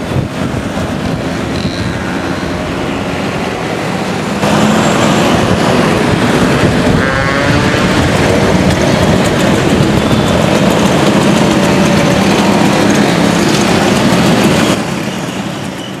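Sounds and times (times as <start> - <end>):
motor scooter engines running: 0.0 - 16.0
scooter engine revving: 1.1 - 15.7.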